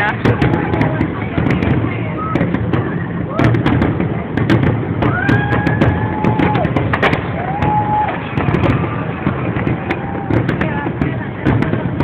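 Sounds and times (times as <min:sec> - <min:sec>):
fireworks cracking and banging: 0:00.0 - 0:12.0
low rumble: 0:00.0 - 0:12.0.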